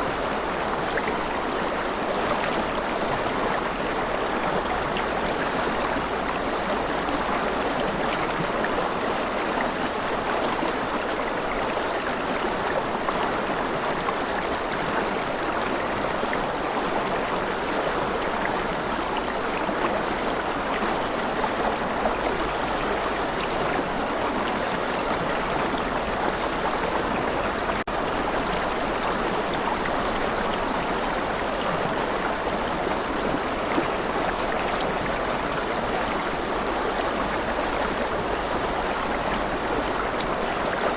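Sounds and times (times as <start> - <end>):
rushing river water: 0.0 - 40.9.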